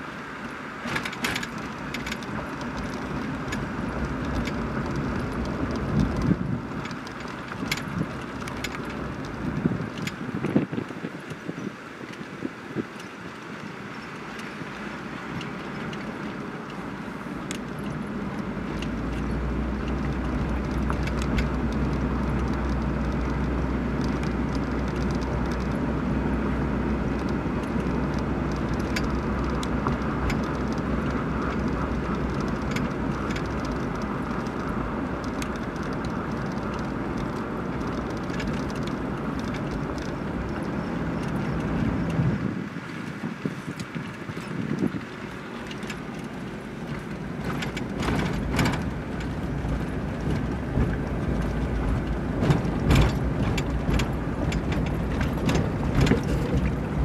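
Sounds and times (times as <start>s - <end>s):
car engine rumble from inside: 0.0s - 57.0s.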